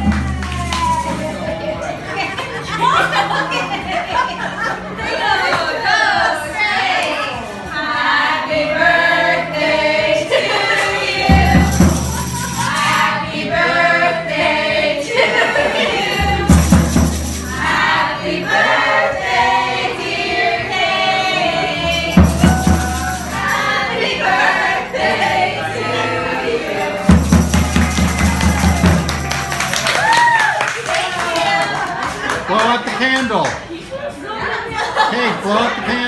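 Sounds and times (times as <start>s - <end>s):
people singing a celebration song: 0.0s - 32.3s.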